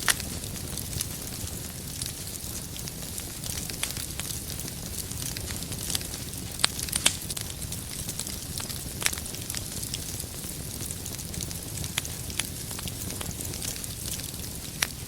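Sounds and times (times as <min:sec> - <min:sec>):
burning firewood popping: 0:00.0 - 0:15.0
flames rumbling and hissing: 0:00.0 - 0:15.0
wood fire crackling: 0:00.0 - 0:15.0.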